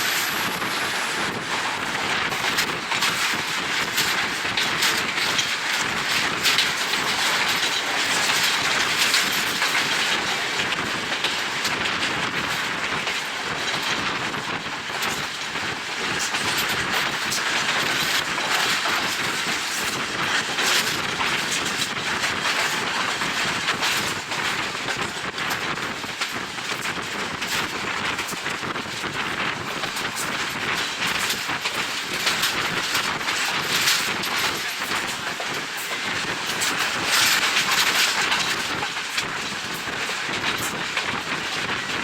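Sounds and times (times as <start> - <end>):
train running noise: 0.0 - 42.0
wheels clicking over rail joints: 0.0 - 42.0.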